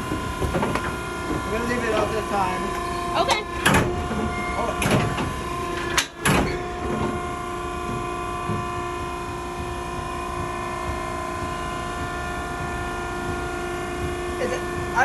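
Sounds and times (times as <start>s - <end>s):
hydraulic power unit humming: 0.0s - 15.0s.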